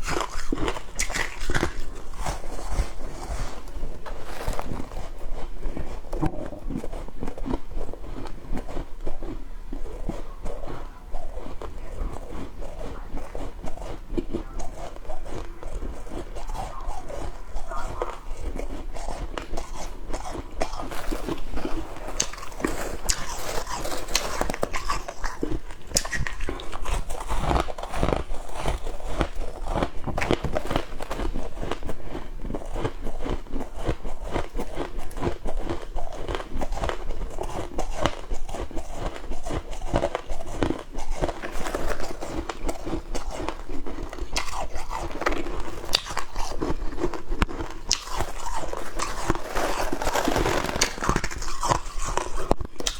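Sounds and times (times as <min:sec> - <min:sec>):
frost being bitten and chewed: 0:00.0 - 0:52.9.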